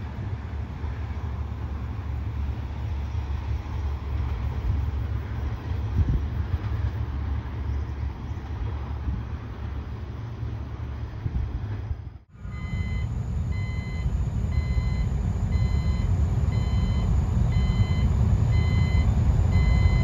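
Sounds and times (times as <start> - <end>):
train rumbling along track: 0.0 - 20.0.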